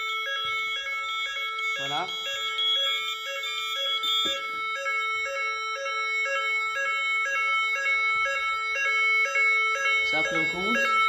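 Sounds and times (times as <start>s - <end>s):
fire alarm evacuation signal: 0.0s - 11.0s
pulsing higher alarm tones: 0.0s - 11.0s.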